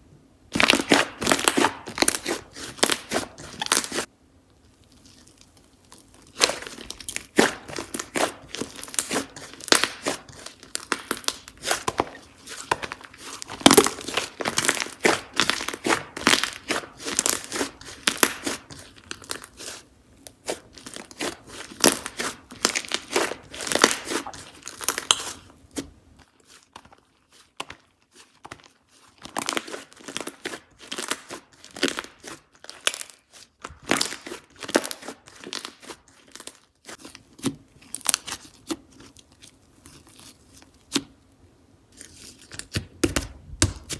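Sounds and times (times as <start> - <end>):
slime crackling and popping: 0.5 - 4.1, 4.7 - 25.8, 26.4 - 41.1.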